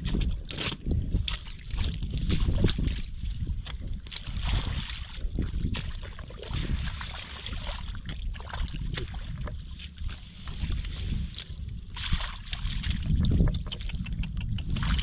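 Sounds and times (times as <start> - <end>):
low rumble: 0.0 - 15.0
water sloshing and splashing: 0.0 - 15.0.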